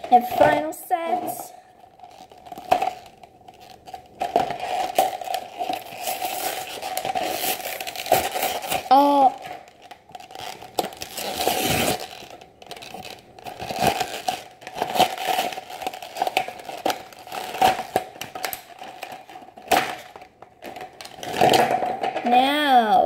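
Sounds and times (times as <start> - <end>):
packaging crinkling and tearing: 1.8 - 22.3.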